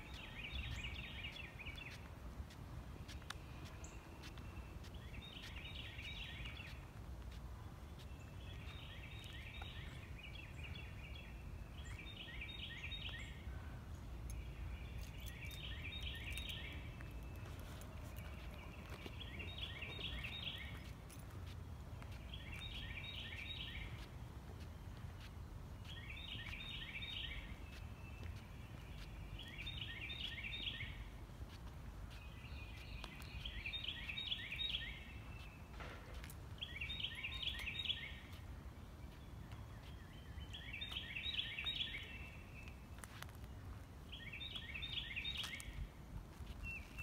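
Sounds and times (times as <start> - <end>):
songbird singing: 0.0 - 47.0.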